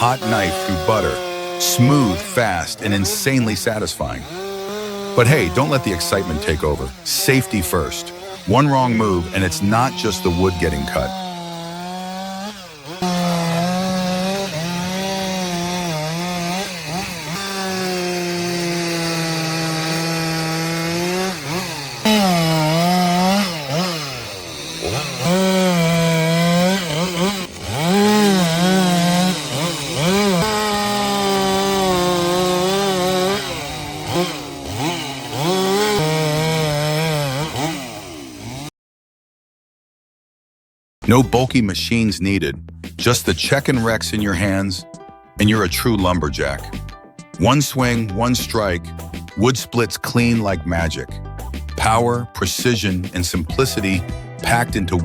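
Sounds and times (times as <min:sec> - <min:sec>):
chainsaw cutting wood: 0:00.0 - 0:38.7, 0:42.8 - 0:55.0.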